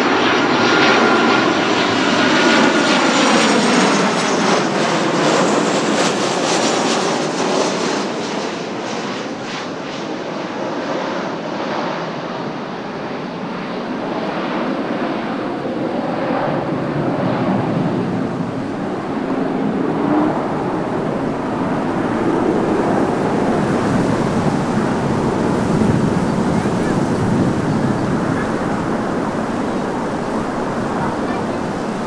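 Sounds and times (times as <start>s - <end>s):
jet airliner rushing rumble: 0.0s - 32.0s.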